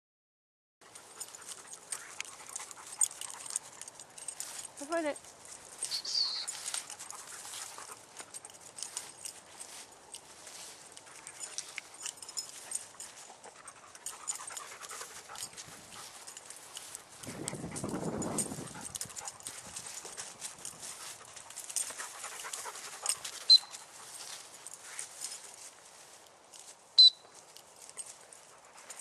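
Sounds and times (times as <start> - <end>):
rustling through grass and leaves: 0.8 - 29.0
dog panting: 1.0 - 24.8.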